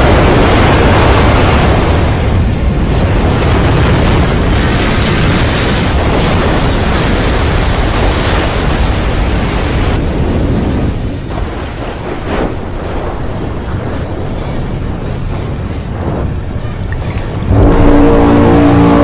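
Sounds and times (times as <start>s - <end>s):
deep roar of surging water: 0.0s - 19.0s.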